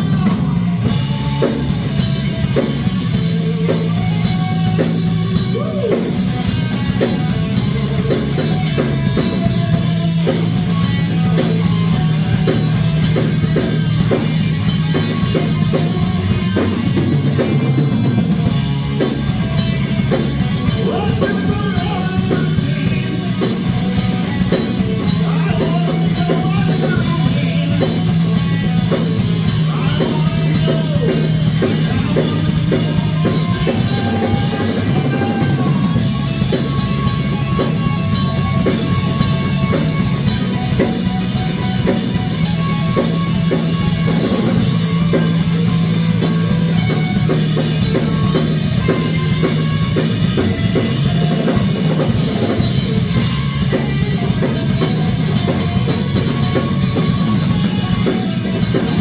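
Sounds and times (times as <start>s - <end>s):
drum kit beat: 0.0s - 59.0s
guitar: 0.0s - 59.0s
low bass notes: 0.0s - 59.0s
rock band playing: 0.0s - 59.0s.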